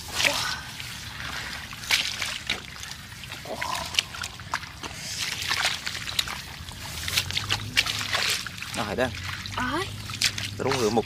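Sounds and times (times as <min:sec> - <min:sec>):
boots squelching through mud: 0:00.0 - 0:11.0.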